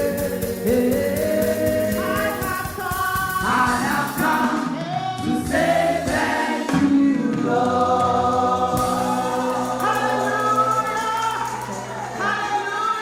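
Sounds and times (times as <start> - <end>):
congregation singing gospel: 0.0 - 13.0
instrumental backing: 0.0 - 13.0.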